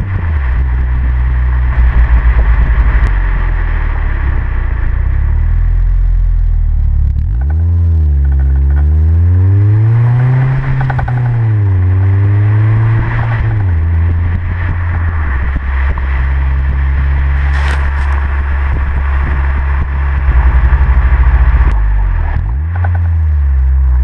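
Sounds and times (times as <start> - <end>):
car exhaust revving and droning: 0.0 - 24.0
road and wind rush: 0.0 - 24.0.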